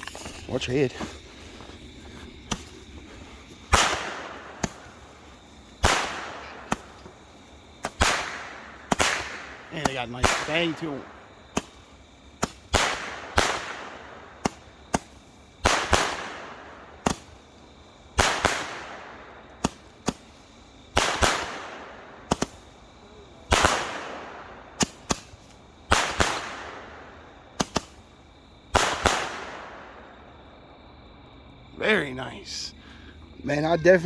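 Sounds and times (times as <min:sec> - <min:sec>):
firework pops: 0:00.0 - 0:17.4, 0:18.2 - 0:22.7, 0:23.4 - 0:28.1, 0:28.7 - 0:29.8
firework shells bursting: 0:00.0 - 0:17.5, 0:18.1 - 0:30.1.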